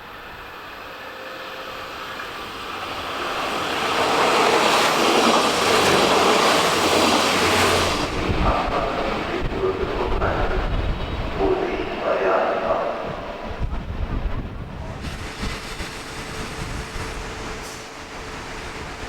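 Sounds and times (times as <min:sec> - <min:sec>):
train passing: 0:00.0 - 0:19.0.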